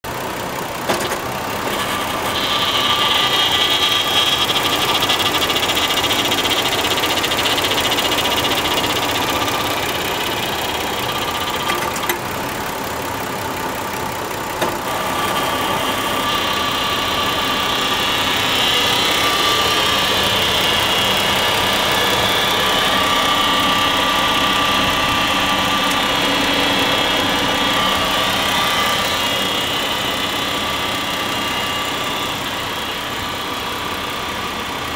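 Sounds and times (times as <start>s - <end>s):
car engine idling: 0.0s - 34.9s
high-pitched whine: 1.6s - 12.1s, 14.8s - 34.9s.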